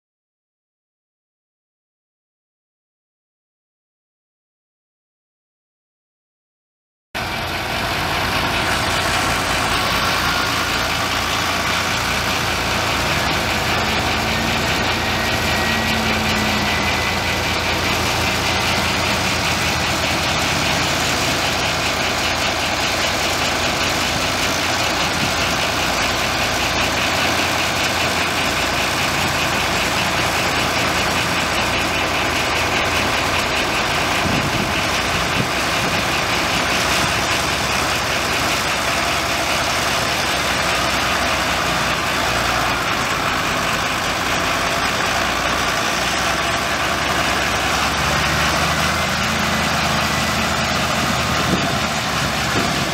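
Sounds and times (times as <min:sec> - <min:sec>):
tractor diesel engine running: 0:07.2 - 0:52.9.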